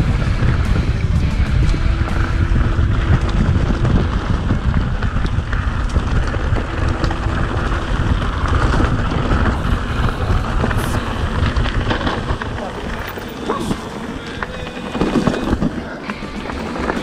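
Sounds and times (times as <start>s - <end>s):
bike rattling: 0.0s - 17.0s
wind buffeting microphone: 0.0s - 17.0s
tyres crunching on loose rocks: 0.2s - 17.0s.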